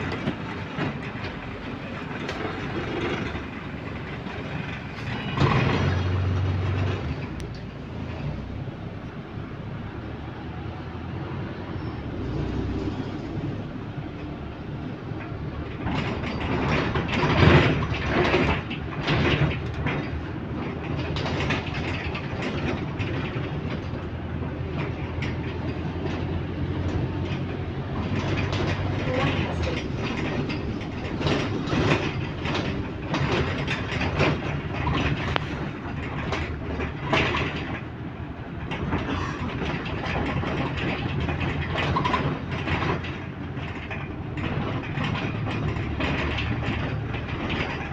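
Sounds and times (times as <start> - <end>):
clattering rattles of bus fittings: 0.0 - 9.3, 11.5 - 47.9
bus engine and road drone: 0.0 - 47.9.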